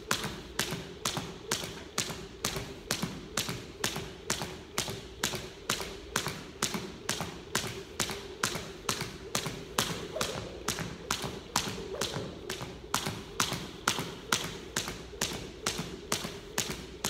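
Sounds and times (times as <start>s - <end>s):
jump rope slapping wooden floor: 0.0s - 17.0s.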